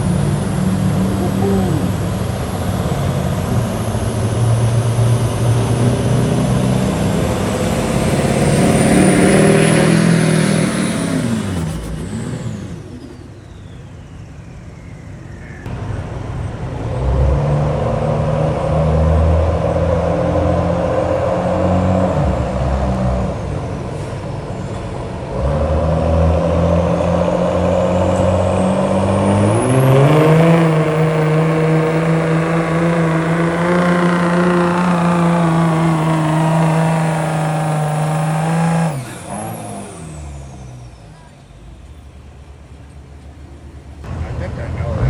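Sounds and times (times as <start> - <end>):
diesel truck engine revving: 0.0 - 14.7, 15.6 - 45.0.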